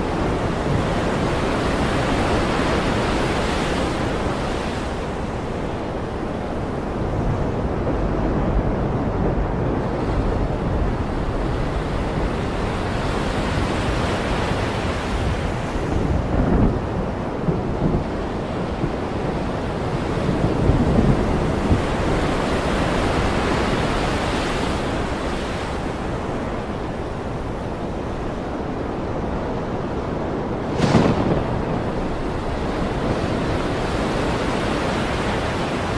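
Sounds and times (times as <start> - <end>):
waves breaking on shore: 0.0 - 35.9
wind buffeting microphone: 0.0 - 35.9.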